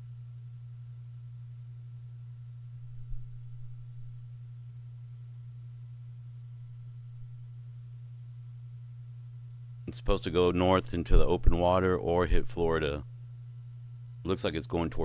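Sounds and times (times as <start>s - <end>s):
faint high whine: 0.0s - 15.0s
steady low hum: 0.0s - 15.0s.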